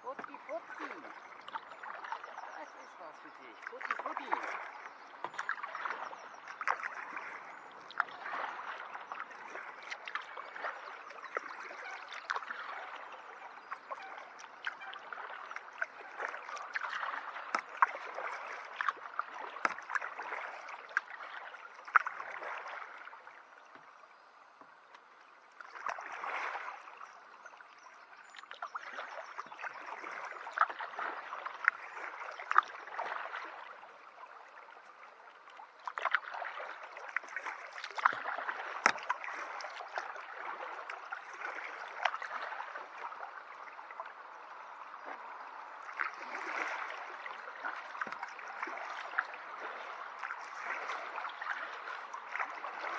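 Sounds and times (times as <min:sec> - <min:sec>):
kayak paddle strokes splashing: 0:00.0 - 0:52.9.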